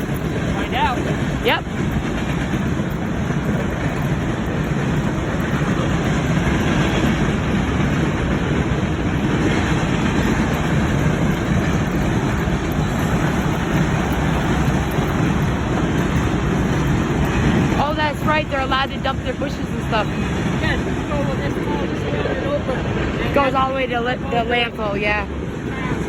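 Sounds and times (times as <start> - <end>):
train cars rumbling on rails: 0.0 - 26.0.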